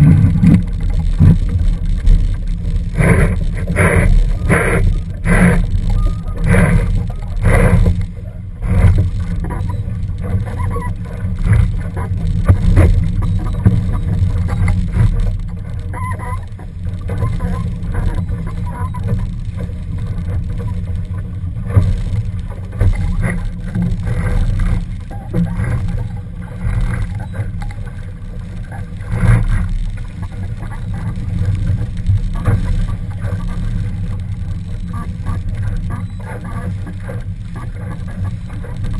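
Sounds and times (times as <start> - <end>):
water splashing against hull: 0.0 - 38.9.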